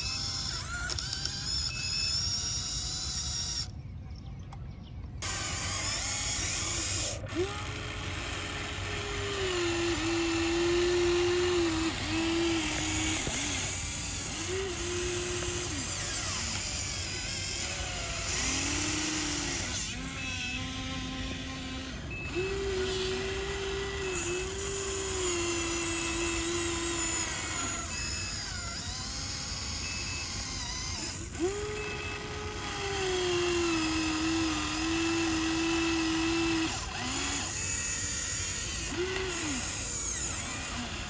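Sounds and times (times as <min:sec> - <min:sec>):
small electric motors whining: 0:00.0 - 0:03.9, 0:05.1 - 0:41.0.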